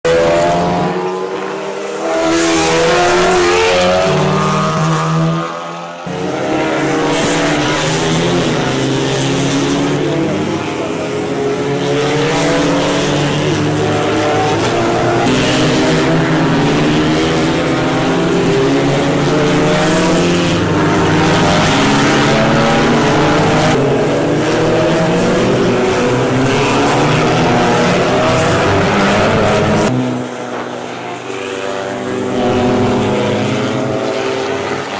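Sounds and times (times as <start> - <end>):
race car engines driving past: 0.1 - 34.9.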